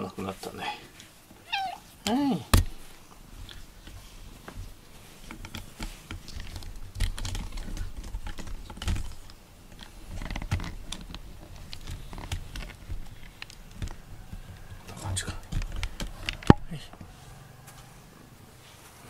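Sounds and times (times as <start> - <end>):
fur rustling on microphone: 0.2 - 19.0.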